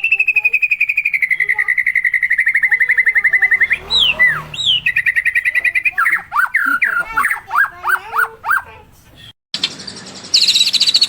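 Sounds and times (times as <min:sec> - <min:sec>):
bird whistling falling notes: 0:00.0 - 0:08.7, 0:09.6 - 0:11.0
bird trilling: 0:00.0 - 0:11.0.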